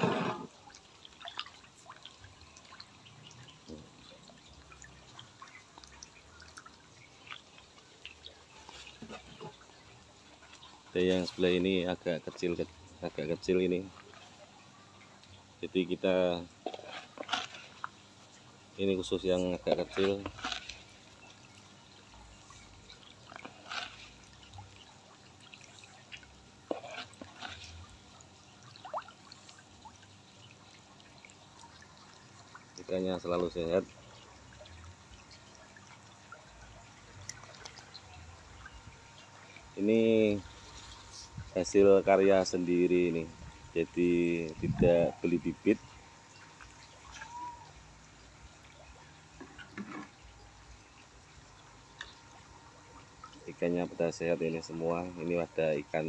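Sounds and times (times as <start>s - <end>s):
water bubbling in a pond: 0.0s - 56.0s
small splashes and drips: 0.2s - 56.0s.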